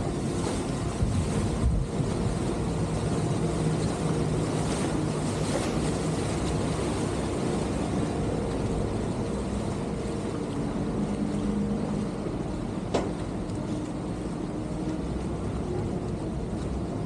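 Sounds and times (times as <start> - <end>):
boat diesel engine running: 0.0 - 17.0
rushing water: 0.0 - 17.0
wind: 0.0 - 17.0.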